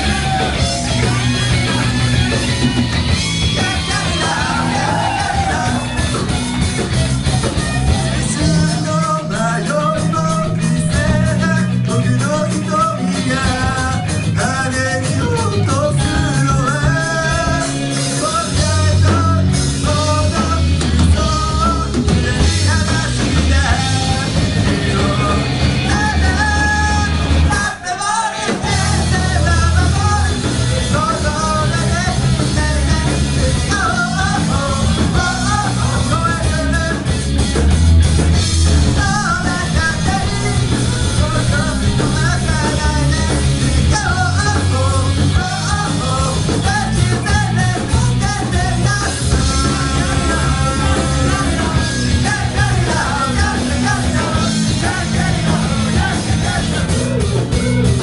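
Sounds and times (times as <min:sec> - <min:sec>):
person singing lead vocal: 0:00.0 - 0:01.9, 0:03.2 - 0:37.7, 0:38.6 - 0:58.0
rock band playing: 0:00.0 - 0:58.0.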